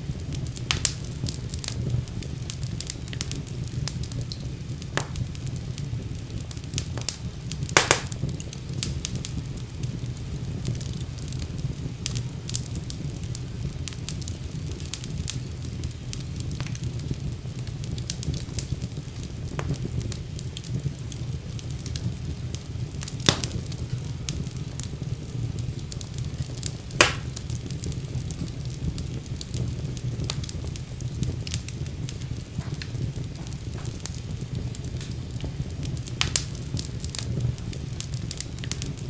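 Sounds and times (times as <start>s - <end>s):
fire crackling in fireplace: 0.0s - 39.0s
loud fire pops: 0.0s - 39.0s.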